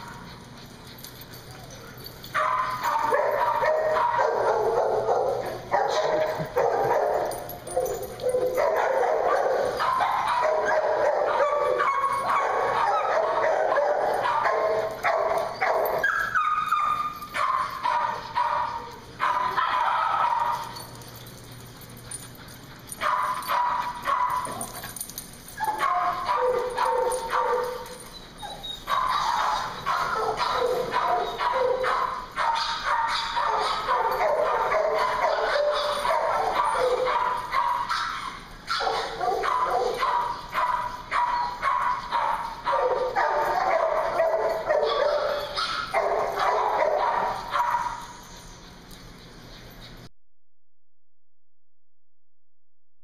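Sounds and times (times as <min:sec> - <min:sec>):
dogs barking and yipping: 0:00.0 - 0:50.1.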